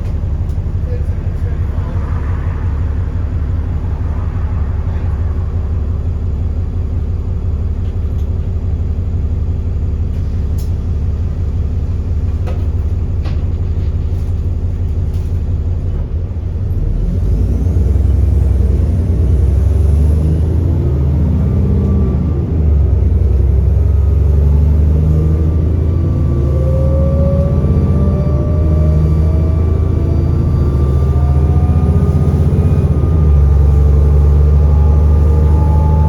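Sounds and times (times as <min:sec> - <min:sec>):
bus engine idling and revving: 0:00.0 - 0:36.0.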